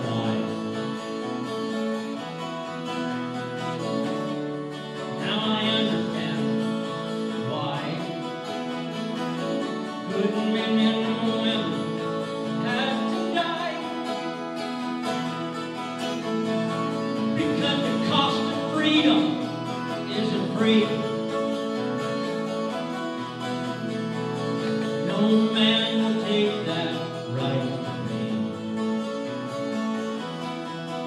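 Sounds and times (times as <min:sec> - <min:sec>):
person singing: 0:00.0 - 0:01.9, 0:04.6 - 0:30.5
acoustic guitar strumming: 0:00.0 - 0:31.0
concert band held chords: 0:00.0 - 0:31.0.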